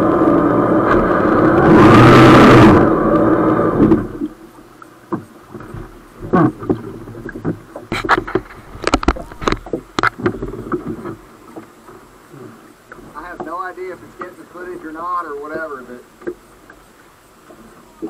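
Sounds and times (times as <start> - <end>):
water slapping against a hull: 3.1 - 18.0.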